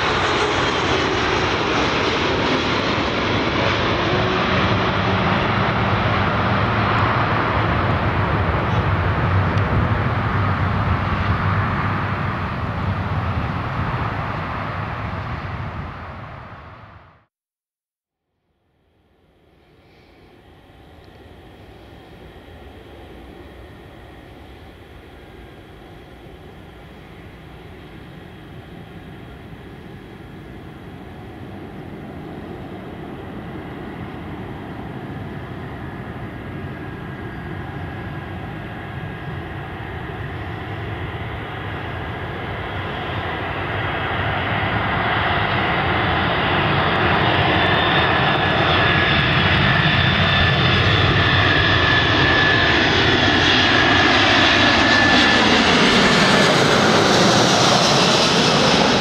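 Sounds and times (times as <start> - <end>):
jet airliner engines approaching: 0.0 - 17.3, 19.0 - 59.0.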